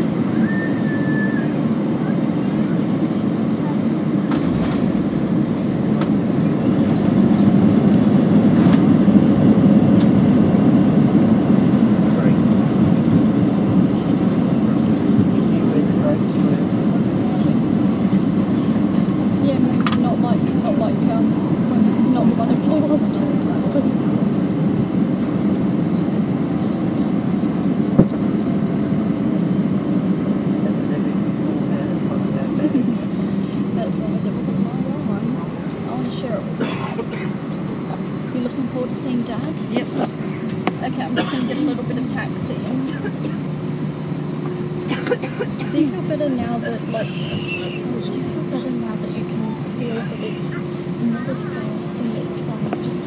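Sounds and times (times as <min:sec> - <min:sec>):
airliner rolling on runway: 0:00.0 - 0:53.0.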